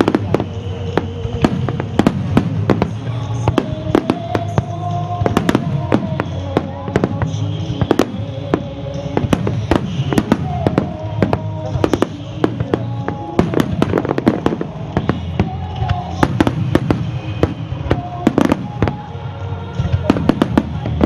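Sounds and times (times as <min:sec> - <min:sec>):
fireworks bursting: 0:00.0 - 0:21.0
music playing: 0:00.0 - 0:21.0.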